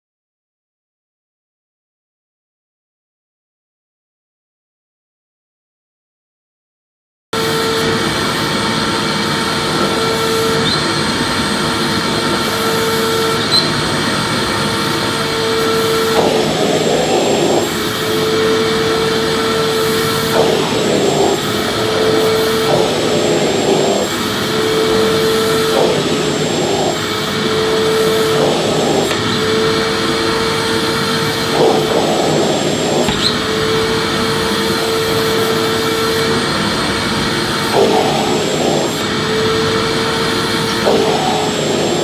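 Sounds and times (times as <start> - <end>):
vacuum cleaner running: 7.4 - 42.0.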